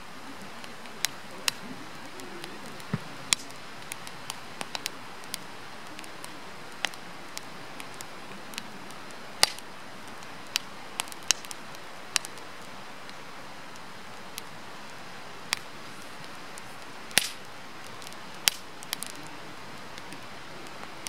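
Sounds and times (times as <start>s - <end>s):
campfire crackling and hissing: 0.0s - 21.0s.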